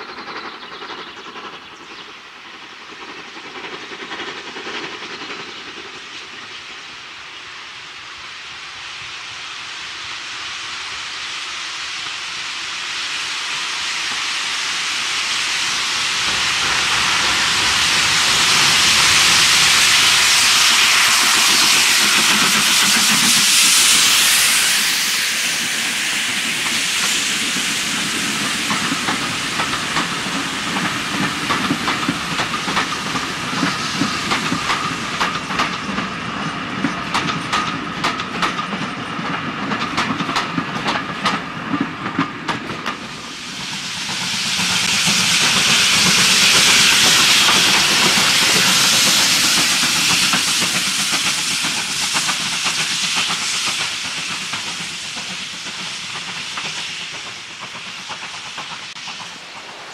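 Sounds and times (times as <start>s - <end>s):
train wheels clicking over rail joints: 0.0s - 6.8s, 14.0s - 59.9s
steam locomotive hissing steam: 0.0s - 59.9s.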